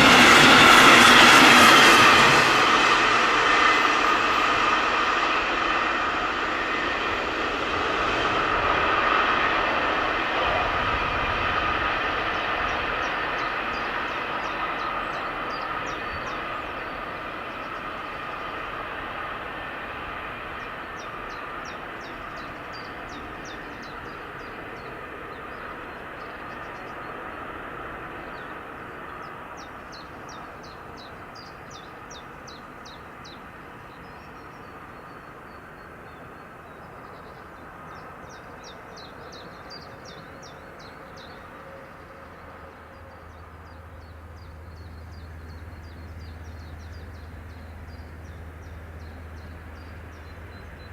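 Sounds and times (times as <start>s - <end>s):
passing train rumbling: 0.0s - 50.9s.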